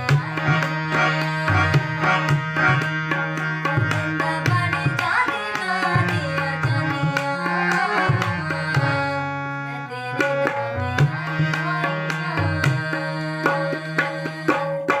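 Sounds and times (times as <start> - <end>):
girl singing: 0.0 - 15.0
harmonium melody: 0.0 - 15.0
tabla beat: 0.0 - 15.0.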